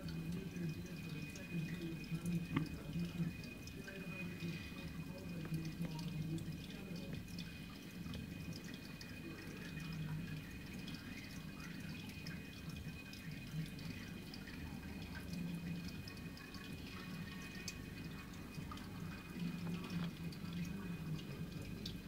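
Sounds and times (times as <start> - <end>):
low steady hum: 0.0 - 22.0
water trickling and dripping: 0.0 - 22.0.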